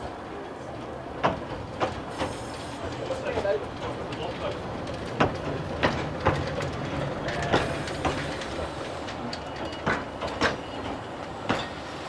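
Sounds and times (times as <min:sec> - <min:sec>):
locomotive rumble: 0:00.0 - 0:12.0
wheels clicking over rail joints: 0:00.4 - 0:11.9.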